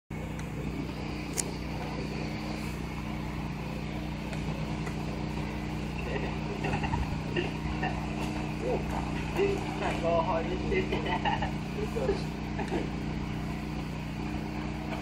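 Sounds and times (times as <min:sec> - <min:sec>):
motor humming: 0:00.1 - 0:15.0.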